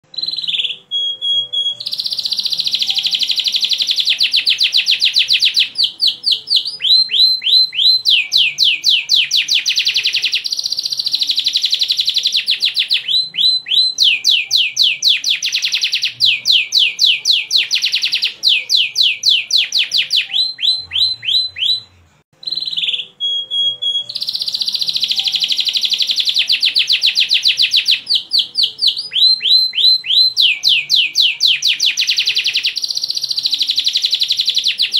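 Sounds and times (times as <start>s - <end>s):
canary singing: 0.0s - 34.9s.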